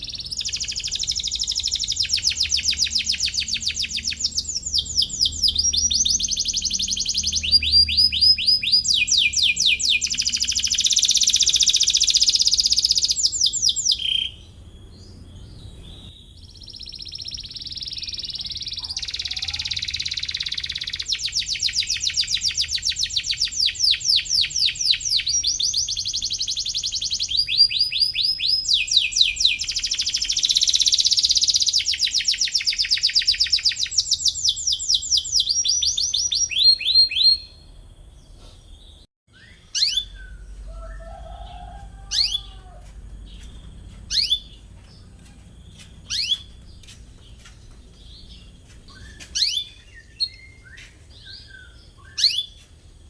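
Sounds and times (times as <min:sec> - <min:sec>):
canary singing trills: 0:00.0 - 0:52.8.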